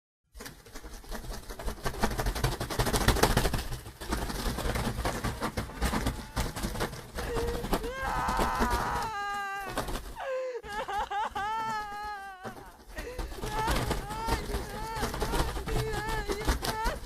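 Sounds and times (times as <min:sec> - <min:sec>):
birds flapping wings: 0:00.4 - 0:17.0.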